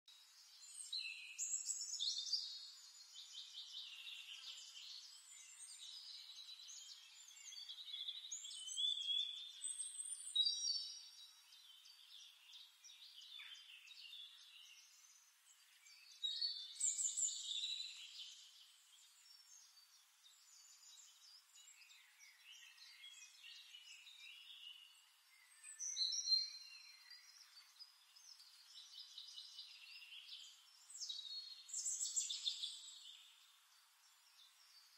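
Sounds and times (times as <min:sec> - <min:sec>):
songbird chirping and trilling: 0:00.1 - 0:34.9.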